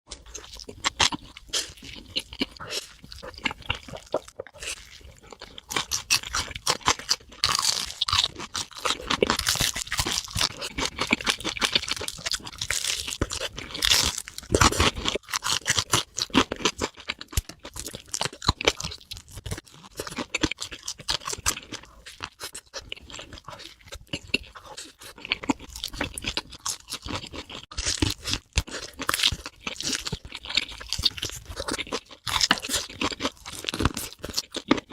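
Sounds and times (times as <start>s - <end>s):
crunchy bites and chewing: 0.1s - 34.9s.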